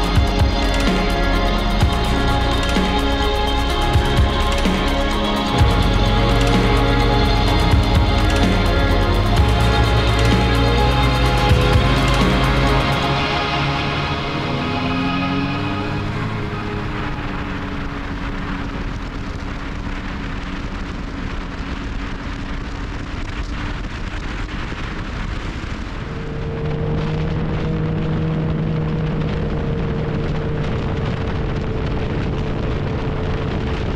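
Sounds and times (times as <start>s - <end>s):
snowmobile engine running: 0.0s - 33.9s
track noise: 0.0s - 33.9s
wind noise: 0.0s - 33.9s.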